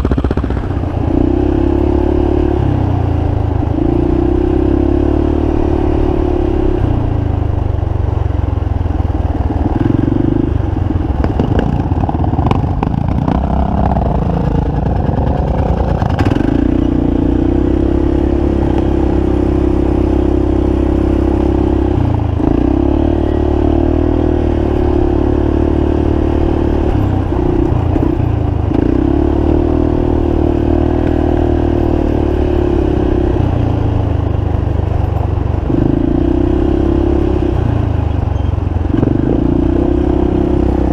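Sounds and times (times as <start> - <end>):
quad engine running hard: 0.0 - 40.9.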